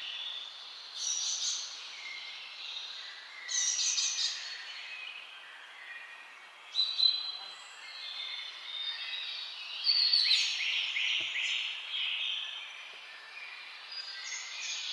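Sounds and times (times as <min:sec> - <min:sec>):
birds chirping and singing: 0:00.0 - 0:14.9.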